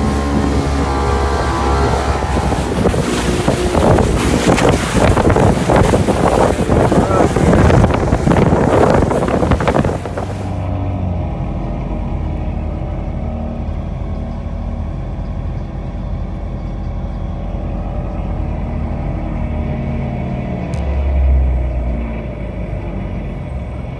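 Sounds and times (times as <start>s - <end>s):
bus engine humming: 0.0s - 23.9s
wind and rushing water: 0.0s - 23.9s.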